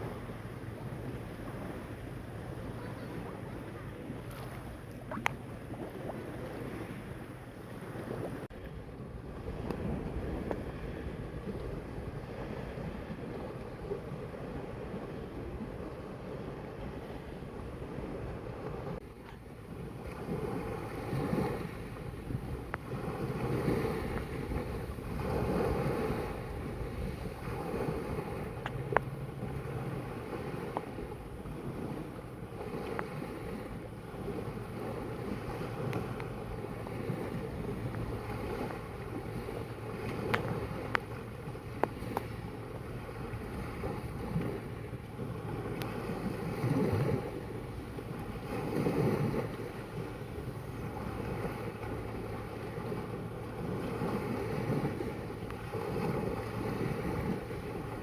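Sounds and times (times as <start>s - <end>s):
sea waves lapping: 0.0s - 58.0s
wind buffeting microphone: 0.0s - 58.0s.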